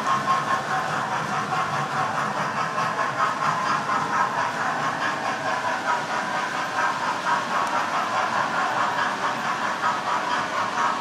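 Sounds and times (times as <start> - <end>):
model trains whirring: 0.0 - 11.0.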